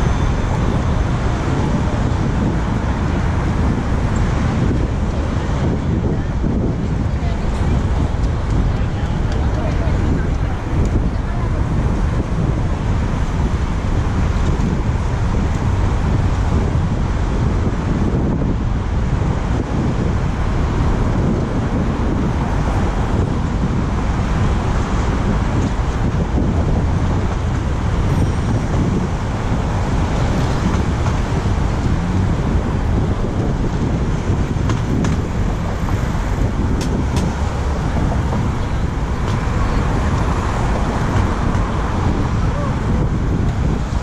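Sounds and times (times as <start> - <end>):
road traffic noise: 0.0 - 44.0
wind rush on microphone: 0.0 - 44.0.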